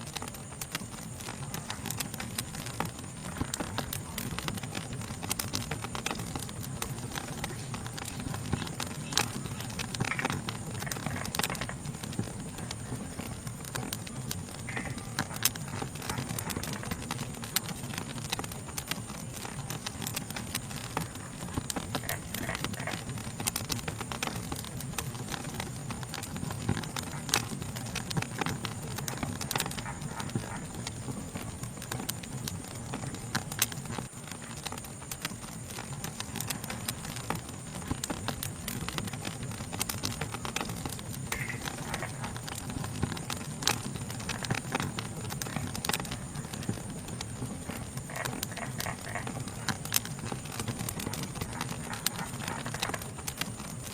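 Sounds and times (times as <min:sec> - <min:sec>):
insect chorus: 0:00.0 - 0:53.9
wood fire crackling and popping: 0:00.0 - 0:53.9.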